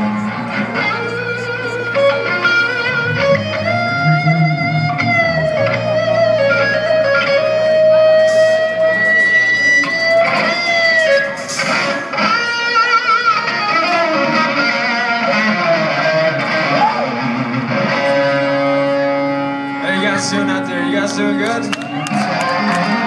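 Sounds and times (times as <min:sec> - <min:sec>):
electric guitar sustained notes: 0:00.0 - 0:23.0.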